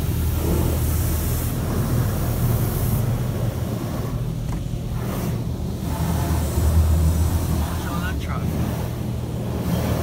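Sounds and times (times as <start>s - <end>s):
water jets spraying a car: 0.0s - 10.0s.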